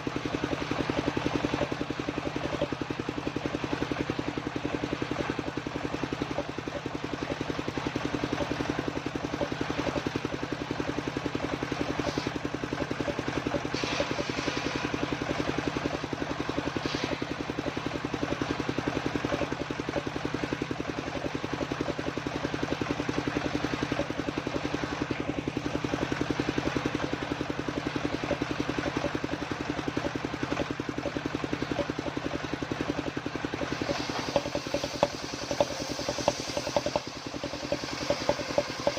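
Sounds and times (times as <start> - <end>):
saw rig engine running: 0.0 - 38.9.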